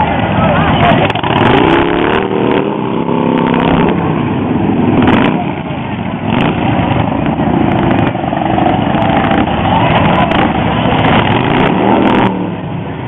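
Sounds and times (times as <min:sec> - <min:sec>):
motorcycles riding past: 0:00.0 - 0:13.0.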